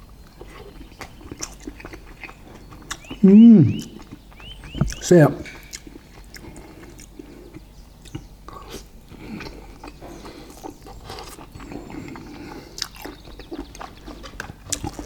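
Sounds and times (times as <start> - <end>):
close chewing and biting: 0.0 - 15.0.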